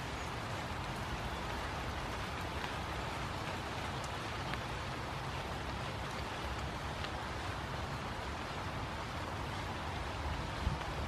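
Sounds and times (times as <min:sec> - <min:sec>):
close raindrops ticking: 0:00.0 - 0:11.0
light rain falling: 0:00.0 - 0:11.0.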